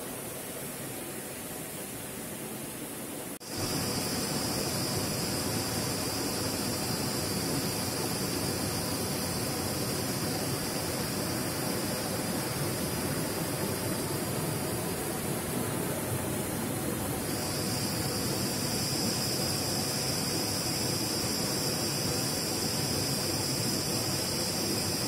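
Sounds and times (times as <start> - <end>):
stream rushing over boulders: 0.0 - 25.0
high-pitched whine: 3.4 - 25.0.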